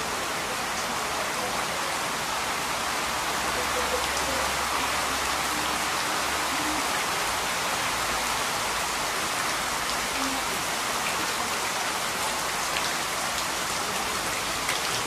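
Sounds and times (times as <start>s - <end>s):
heavy rain splashing: 0.0s - 15.0s.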